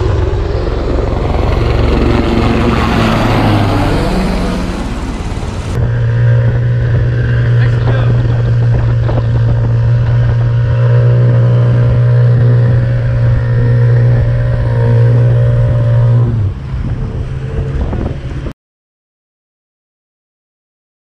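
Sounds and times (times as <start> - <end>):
outboard motor droning: 0.0 - 18.5
rush of wind and water: 0.0 - 18.5.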